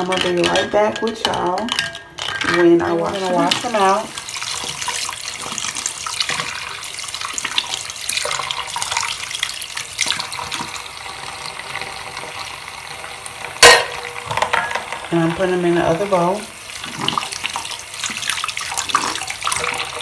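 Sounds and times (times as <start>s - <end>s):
tap water running into a sink: 2.4s - 20.0s.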